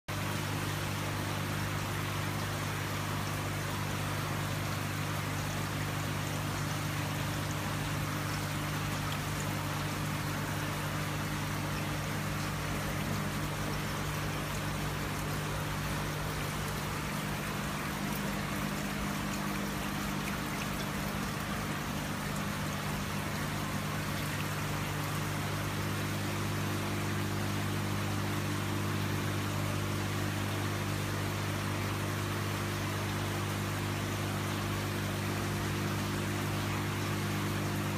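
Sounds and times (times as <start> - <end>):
fountain water rushing: 0.1 - 37.9
steady low hum: 0.1 - 37.9.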